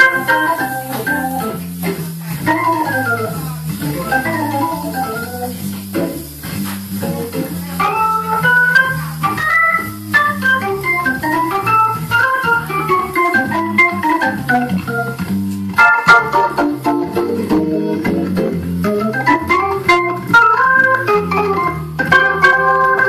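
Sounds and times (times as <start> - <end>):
hammond organ playing: 0.0 - 23.0.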